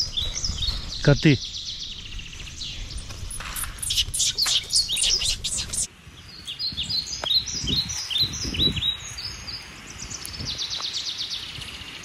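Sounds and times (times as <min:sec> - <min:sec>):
birds calling falling chirps: 0:00.0 - 0:12.0.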